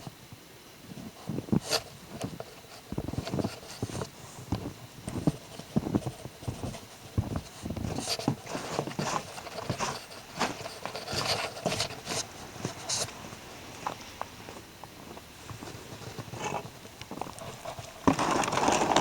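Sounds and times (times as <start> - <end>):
footsteps crunching through snow: 1.0 - 19.0.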